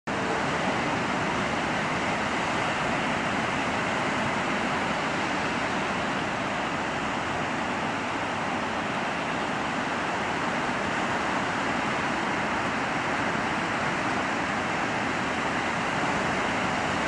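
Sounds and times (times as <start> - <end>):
ocean surf breaking: 0.1 - 17.0.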